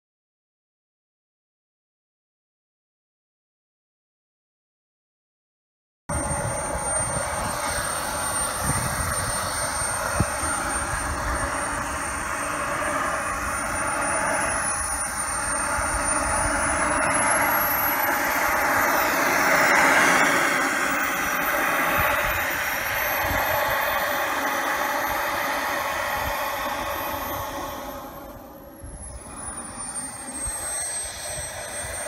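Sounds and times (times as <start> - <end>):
model jet turbine whining: 6.1 - 32.0.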